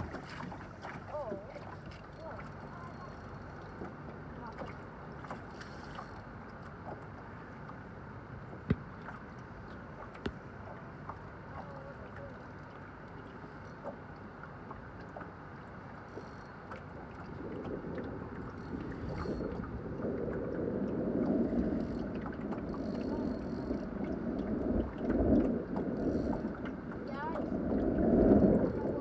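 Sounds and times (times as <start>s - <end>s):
wind and water rushing: 0.0s - 3.0s, 3.7s - 29.0s.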